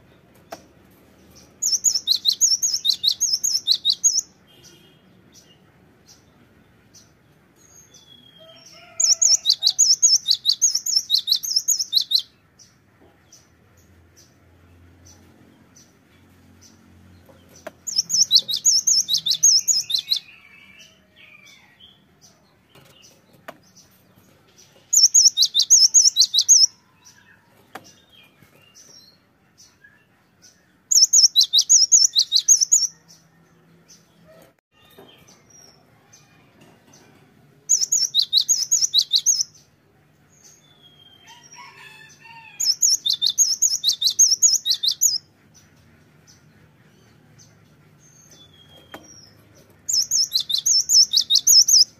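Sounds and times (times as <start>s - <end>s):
soft bird chirps: 0.0s - 6.3s, 6.9s - 14.3s, 15.0s - 36.4s, 37.0s - 39.8s, 40.4s - 47.2s, 48.1s - 51.9s.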